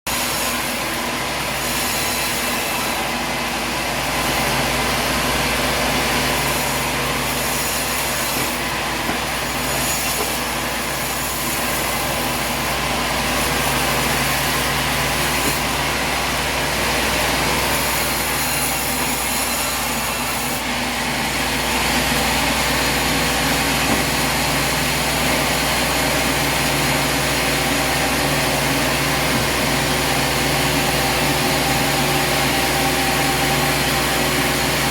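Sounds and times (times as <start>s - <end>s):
sawmill running: 0.1s - 34.9s.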